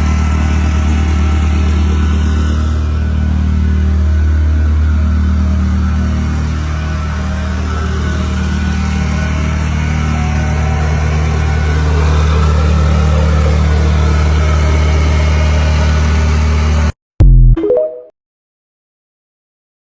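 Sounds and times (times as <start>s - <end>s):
engine humming steadily: 0.0s - 16.9s.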